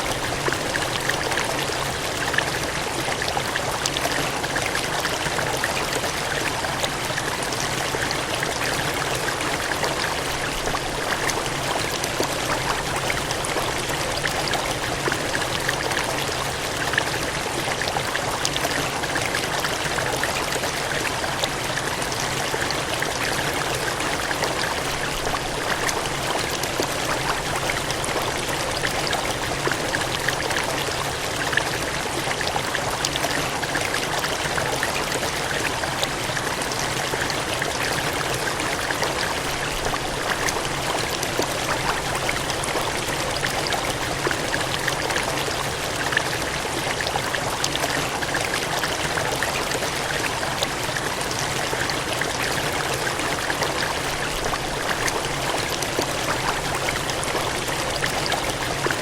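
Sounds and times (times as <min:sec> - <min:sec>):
cascading water gushing: 0:00.0 - 0:59.0.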